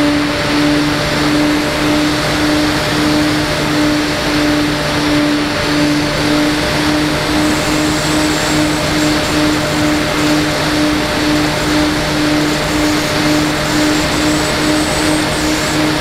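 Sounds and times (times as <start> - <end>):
model aircraft motor humming: 0.0 - 16.0
steady loud hiss: 0.0 - 16.0.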